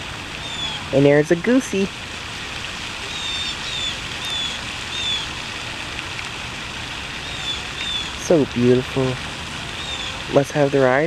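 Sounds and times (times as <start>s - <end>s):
steady rushing hiss: 0.0s - 11.0s.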